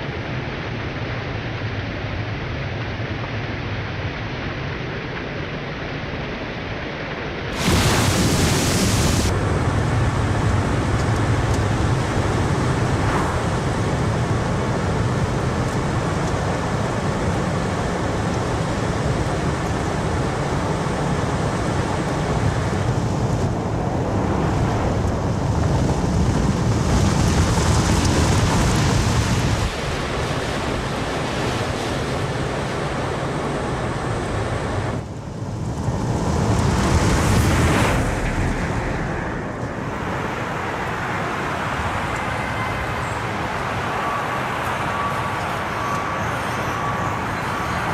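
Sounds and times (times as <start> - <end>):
wind rushing past vehicle: 7.4 - 47.9.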